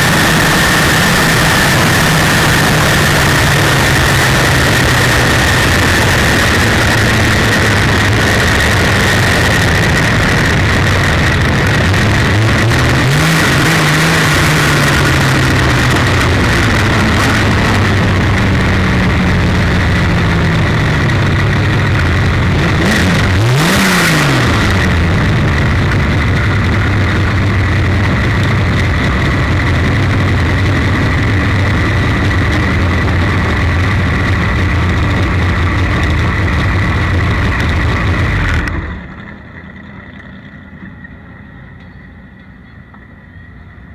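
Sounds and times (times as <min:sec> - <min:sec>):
race car engine running hard: 0:00.0 - 0:43.9.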